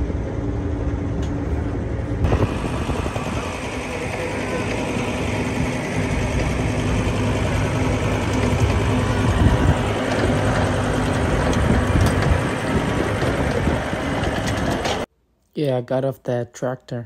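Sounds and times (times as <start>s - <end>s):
tractor engine rumbling: 0.0s - 15.1s.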